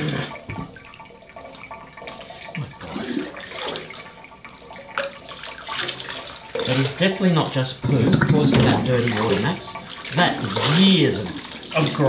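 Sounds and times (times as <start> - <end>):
water splashing in a metal sink: 0.0 - 12.0.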